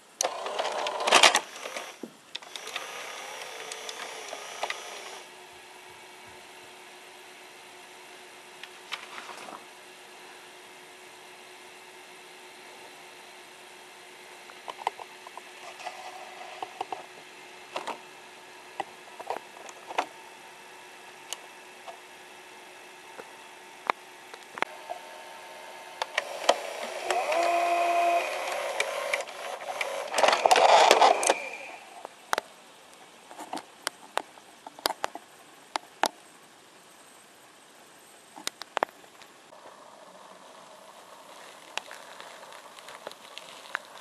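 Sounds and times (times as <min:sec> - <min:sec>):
faint steady hum: 0:00.0 - 0:44.0
whirring with steady whine: 0:00.0 - 0:44.0.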